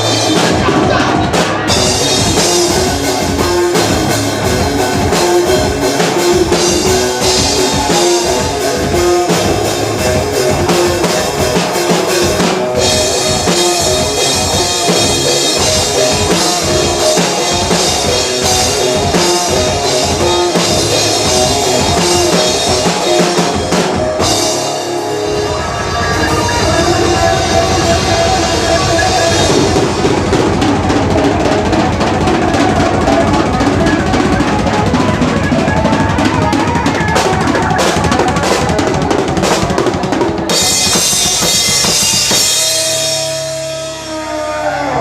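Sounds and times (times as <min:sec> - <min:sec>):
drum kit beat: 0:00.0 - 0:44.7
rock band playing: 0:00.0 - 0:45.0
sustained guitar notes: 0:00.0 - 0:45.0.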